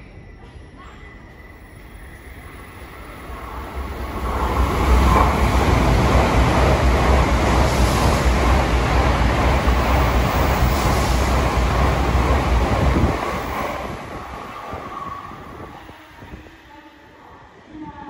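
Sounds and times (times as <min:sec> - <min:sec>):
train passing at speed: 0:00.0 - 0:18.0
deep train rumble: 0:02.4 - 0:18.0.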